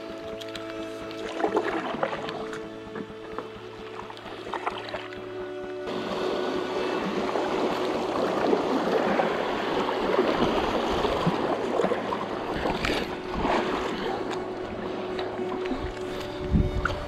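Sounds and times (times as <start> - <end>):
water rushing: 0.0 - 17.0
water splashes: 0.0 - 17.0.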